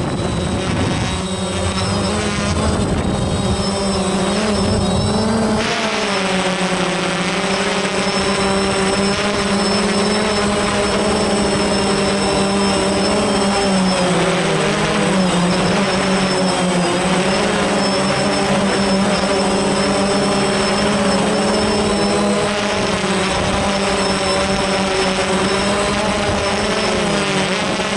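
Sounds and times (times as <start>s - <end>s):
drone propellers whining: 0.0s - 27.9s.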